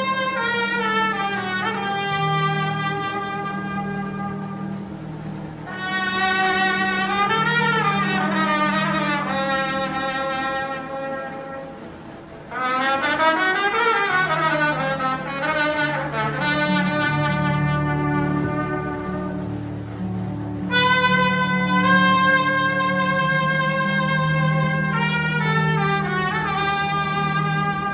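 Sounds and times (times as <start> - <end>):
brass band accompaniment: 0.0 - 27.9
solo trumpet melody: 0.0 - 27.9.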